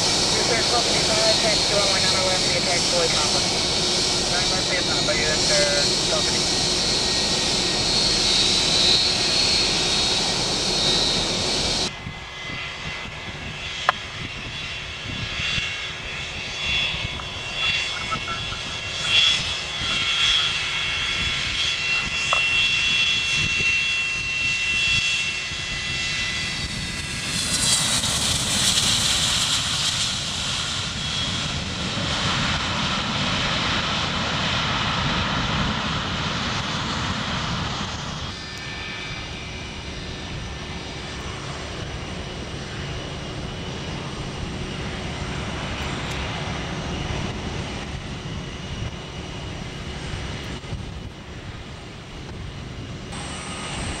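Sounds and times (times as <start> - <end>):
jet engines whining: 0.0 - 54.0
jet passing: 0.0 - 54.0.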